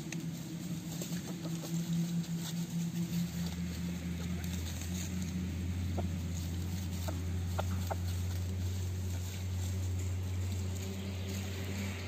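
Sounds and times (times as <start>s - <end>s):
birds scratching in dry leaves: 0.0s - 12.0s
low motor hum: 0.0s - 12.0s.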